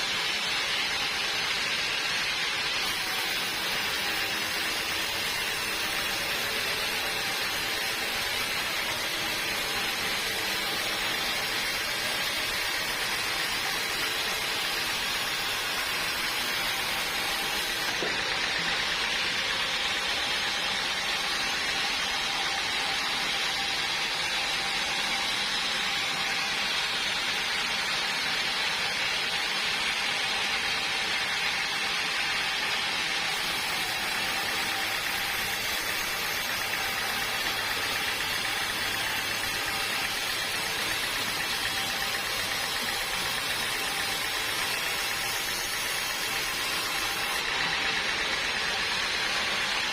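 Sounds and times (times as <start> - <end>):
sawmill machinery whirring: 0.0 - 49.9.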